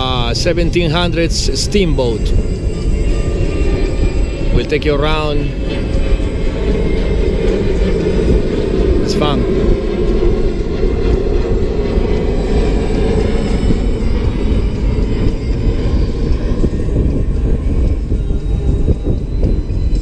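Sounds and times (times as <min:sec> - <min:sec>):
boat engine rumble: 0:00.0 - 0:20.0
wind: 0:00.0 - 0:20.0.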